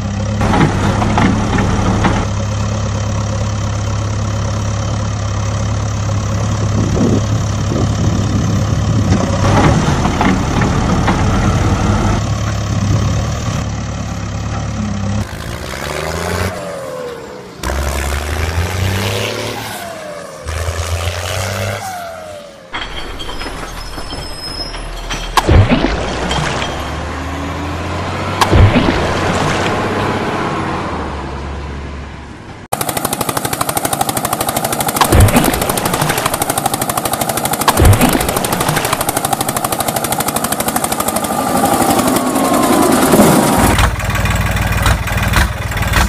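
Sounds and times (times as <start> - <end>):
heavy vehicle engine: 0.0 - 46.0.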